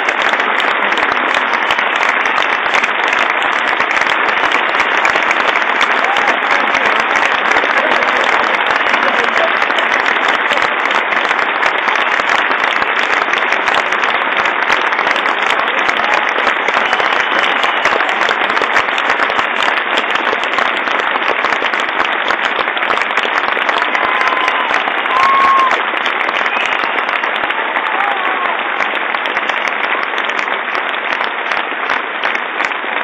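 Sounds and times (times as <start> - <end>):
audience applauding: 0.0 - 33.0.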